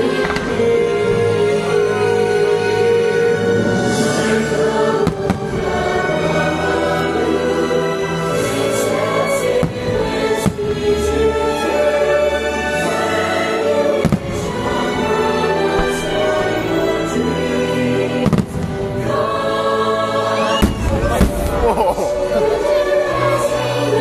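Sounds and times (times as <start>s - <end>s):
fireworks show music: 0.0s - 24.0s.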